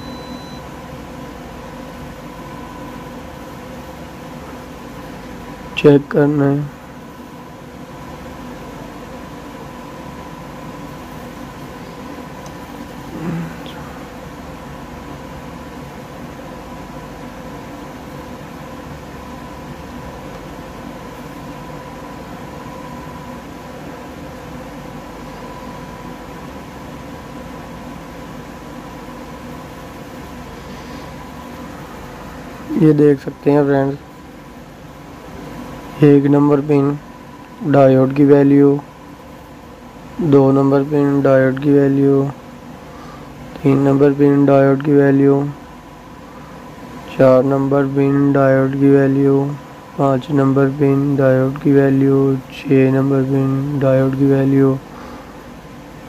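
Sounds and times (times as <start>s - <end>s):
faint constant tone: 0.0s - 56.0s
faint hum: 0.0s - 56.0s.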